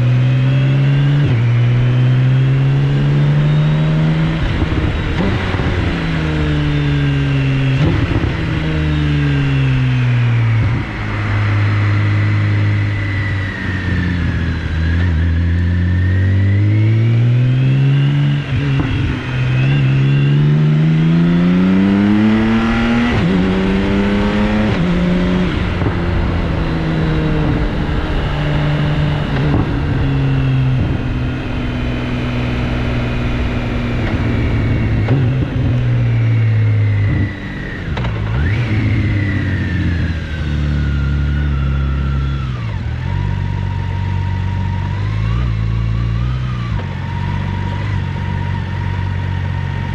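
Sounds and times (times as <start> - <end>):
motorcycle engine shifting gears: 0.0 - 49.9.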